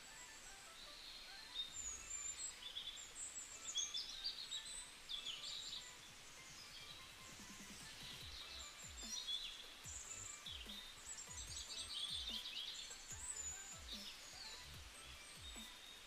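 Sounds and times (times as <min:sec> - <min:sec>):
faint background hiss: 0:00.0 - 0:16.0
small birds chirping: 0:00.0 - 0:16.0.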